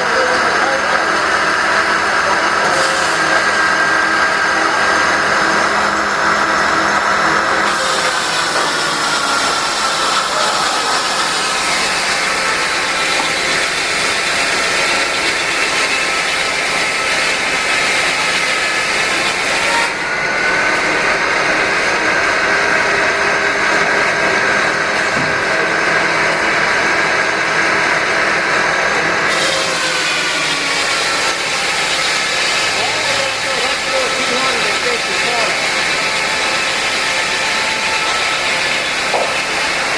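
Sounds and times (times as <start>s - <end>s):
sawmill whine: 0.0s - 39.9s.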